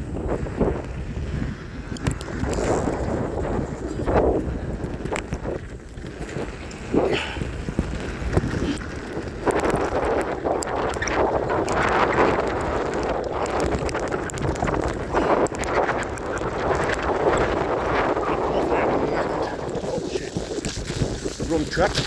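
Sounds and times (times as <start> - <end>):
bike tyre noise on rough track: 0.0 - 22.0
wind buffeting microphone: 0.0 - 22.0.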